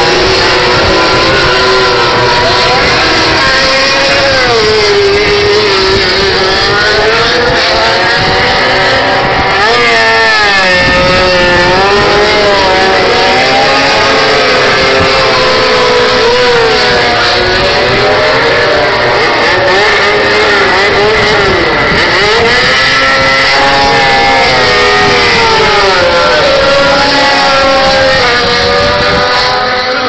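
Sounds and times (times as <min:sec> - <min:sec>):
racing motorcycle engines revving: 0:00.0 - 0:30.0.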